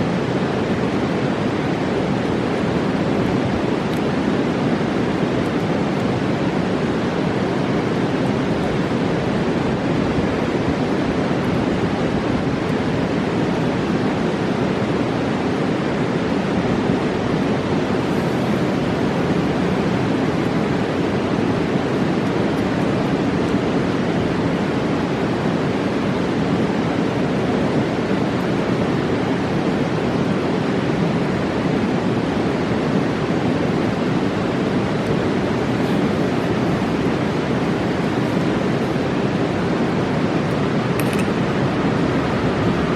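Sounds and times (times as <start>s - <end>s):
river water roaring: 0.0s - 42.9s.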